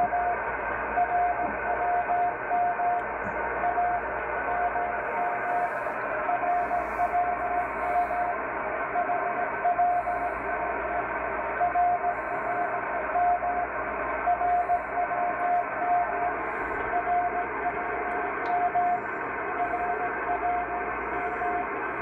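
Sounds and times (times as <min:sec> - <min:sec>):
radio band noise and hiss: 0:00.0 - 0:22.0.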